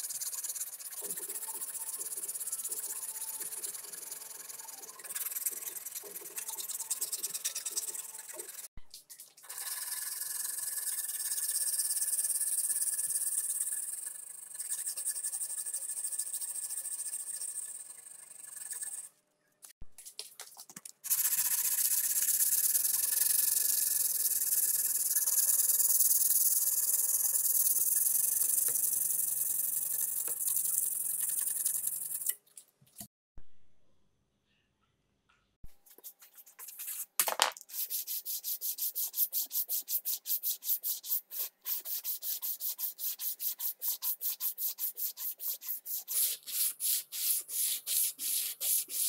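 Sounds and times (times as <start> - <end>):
sandpaper scraping knife blade: 0.0 - 8.7, 9.5 - 19.1, 21.1 - 32.3, 37.7 - 49.0.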